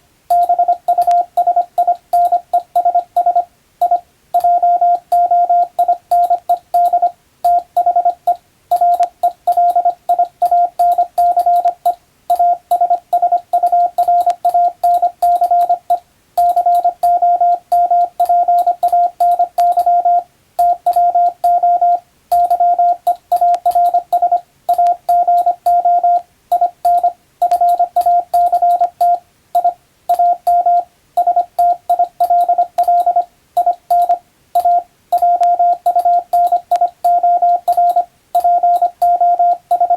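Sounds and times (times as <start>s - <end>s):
morse code beeps: 0.3s - 39.9s.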